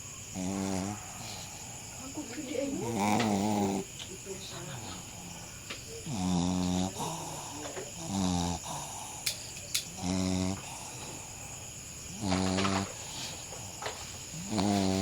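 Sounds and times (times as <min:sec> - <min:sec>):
dog snoring: 0:00.0 - 0:15.0.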